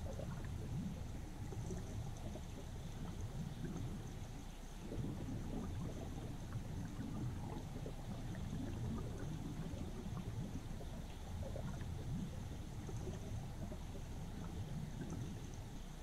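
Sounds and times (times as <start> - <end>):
soft water gurgles: 0.0 - 16.0
underwater river churn: 0.0 - 16.0.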